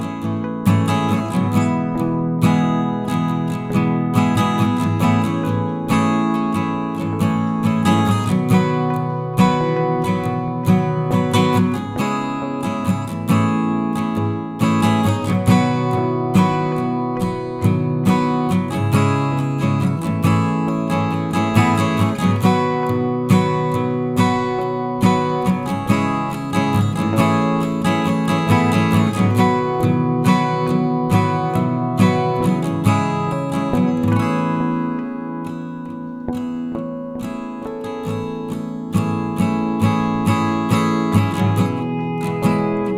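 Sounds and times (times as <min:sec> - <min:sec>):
acoustic guitar strumming chords: 0:00.0 - 0:42.9.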